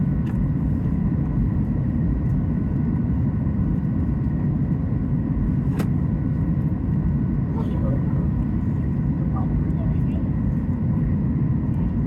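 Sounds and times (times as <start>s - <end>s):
faint engine whine: 0.0s - 12.0s
jet engine cabin rumble: 0.0s - 12.0s.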